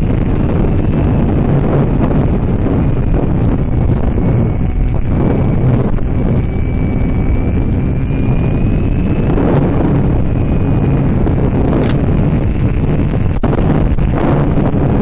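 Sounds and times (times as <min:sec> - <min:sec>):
electric motor whine: 0:00.0 - 0:14.8
wind buffeting microphone: 0:00.0 - 0:15.0.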